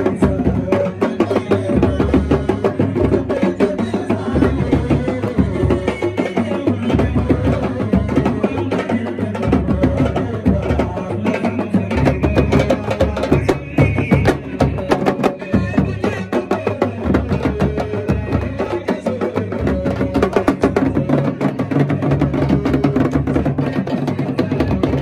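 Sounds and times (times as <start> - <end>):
hand drums playing fast rhythm: 0.0 - 25.0
man singing into microphone: 0.0 - 25.0.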